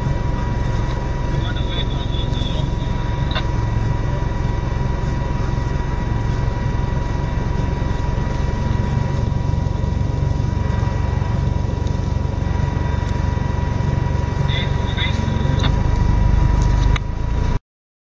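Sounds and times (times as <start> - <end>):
thin high whine: 0.0 - 17.2
engine droning: 0.0 - 17.6.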